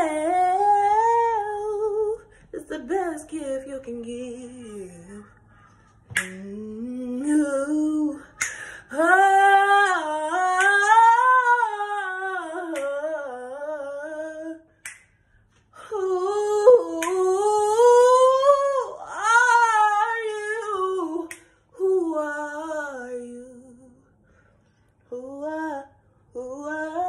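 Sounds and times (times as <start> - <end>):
woman singing wordless notes: 0.0 - 5.4, 6.2 - 14.7, 15.8 - 24.1, 25.1 - 27.0.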